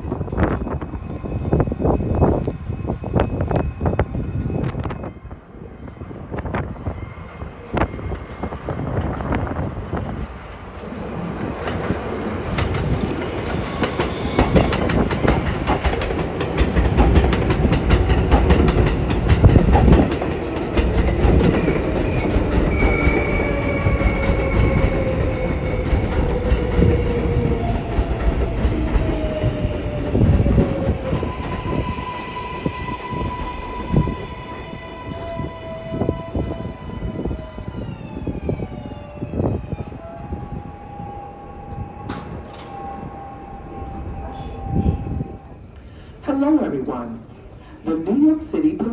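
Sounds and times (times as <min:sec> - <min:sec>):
subway train rumble: 0:00.0 - 0:48.9.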